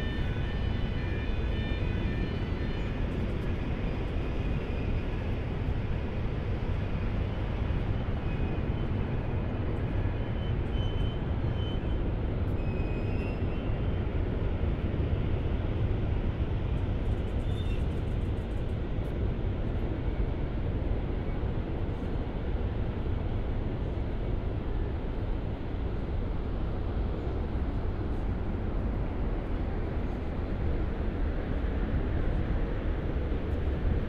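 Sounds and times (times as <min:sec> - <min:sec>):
train rolling along track: 0:00.0 - 0:34.0.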